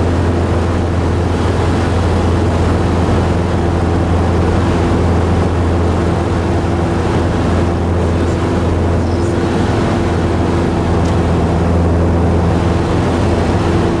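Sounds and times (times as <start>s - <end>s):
aircraft engine and propeller droning: 0.0s - 14.0s.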